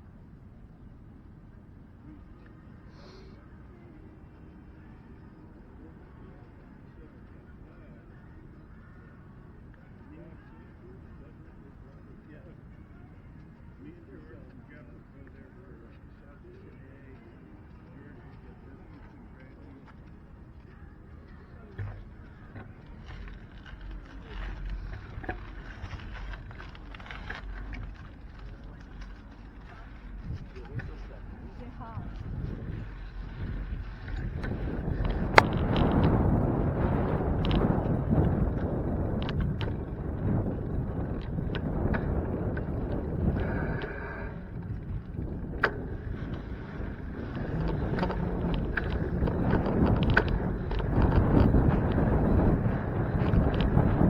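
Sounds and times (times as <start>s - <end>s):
road noise: 0.0s - 54.0s
wind rumbling on microphone: 0.0s - 54.0s
bicycle rattles and clicks: 4.4s - 54.0s.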